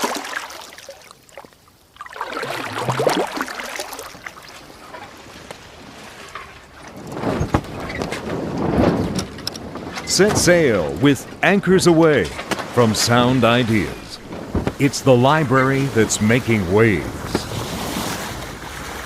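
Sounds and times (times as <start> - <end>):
boat engine: 0.0 - 19.0
water noise: 0.0 - 19.0.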